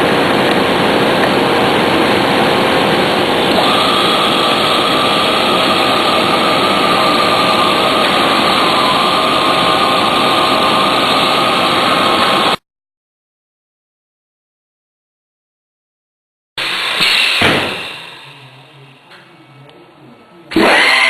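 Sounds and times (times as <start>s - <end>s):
shop machinery hissing and whining: 0.0s - 12.6s, 16.6s - 21.0s.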